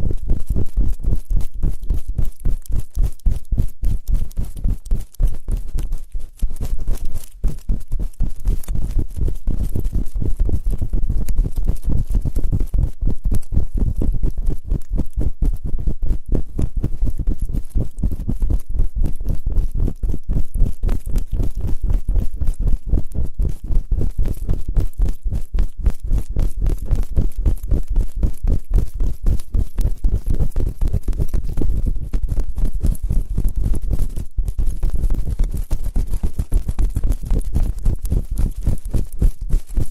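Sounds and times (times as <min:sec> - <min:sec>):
scratching and rubbing on microphone: 0:00.0 - 0:39.9.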